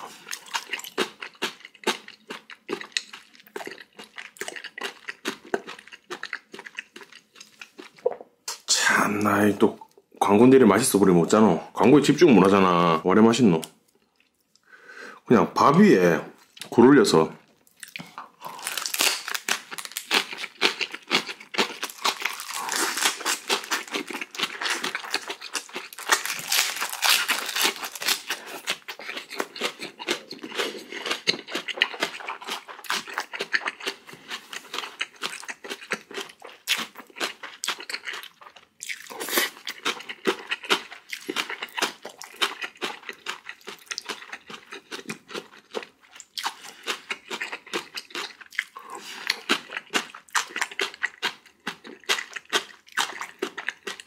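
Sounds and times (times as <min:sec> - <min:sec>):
crunchy chewing: 0:00.0 - 0:08.0, 0:17.7 - 0:54.0.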